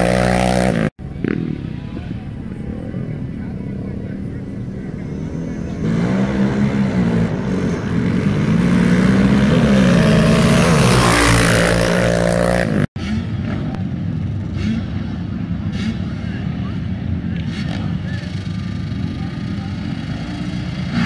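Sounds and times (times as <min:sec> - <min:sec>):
quieter engine noise: 0:00.0 - 0:21.0
racing atv engines revving: 0:00.0 - 0:21.0.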